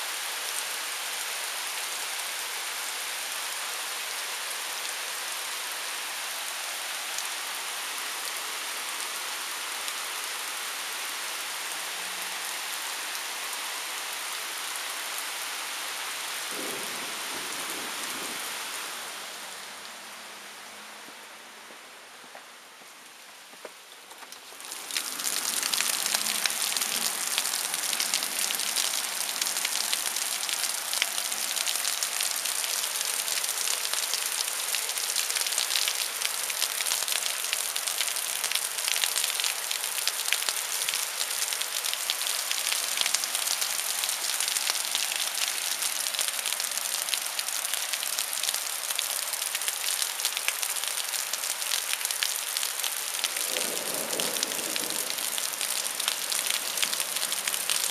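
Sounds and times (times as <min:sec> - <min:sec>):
rain falling on grass and pavement: 0:00.0 - 0:57.9.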